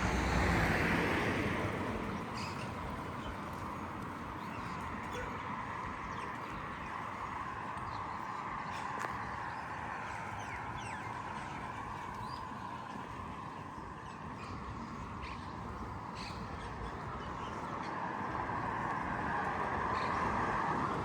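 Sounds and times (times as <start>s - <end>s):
small birds chirping: 1.9s - 19.0s.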